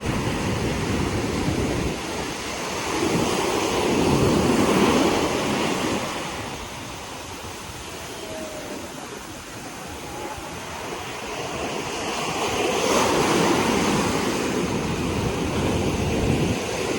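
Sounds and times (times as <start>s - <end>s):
sea waves breaking on beach: 0.0s - 16.9s.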